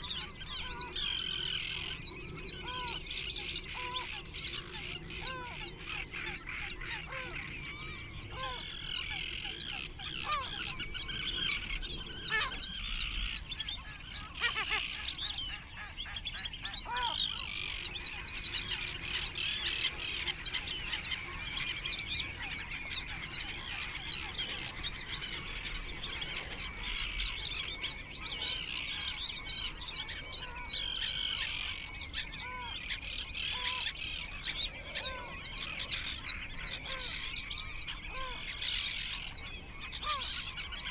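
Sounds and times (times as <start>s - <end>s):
flock of birds chirping: 0.0s - 40.9s.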